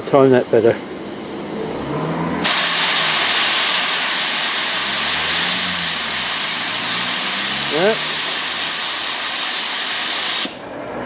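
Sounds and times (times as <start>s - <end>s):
steam hissing from safety valves: 0.0s - 10.7s.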